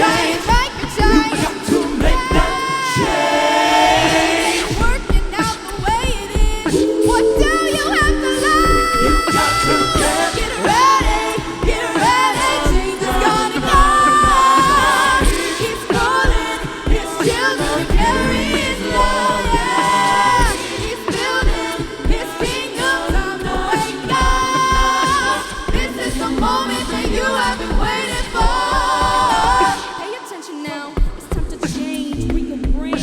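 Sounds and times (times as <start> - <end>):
voices singing over a beat: 0.0 - 33.0.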